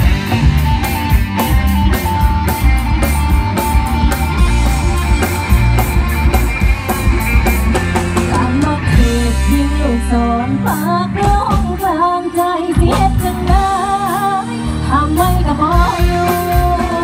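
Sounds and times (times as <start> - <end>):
bass guitar: 0.0 - 17.0
distorted electric guitars: 0.0 - 17.0
drum kit with cymbals: 0.0 - 17.0.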